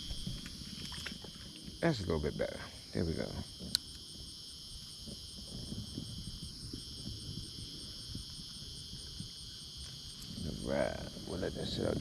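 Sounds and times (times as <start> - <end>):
crickets and insects singing: 0.0 - 12.0
insect chirping: 0.0 - 12.0.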